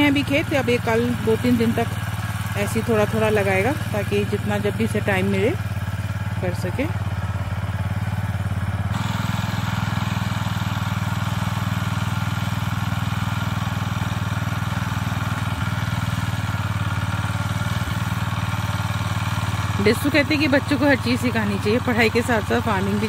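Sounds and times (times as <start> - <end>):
power tiller engine running: 0.0 - 23.0.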